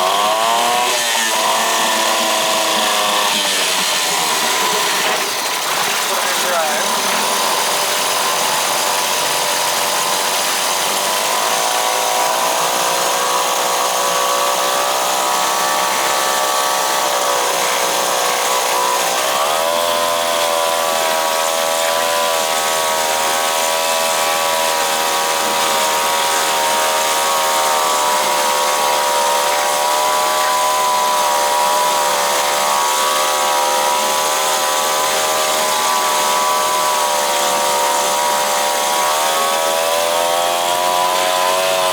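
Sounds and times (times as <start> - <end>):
outboard motor running: 0.0 - 41.9.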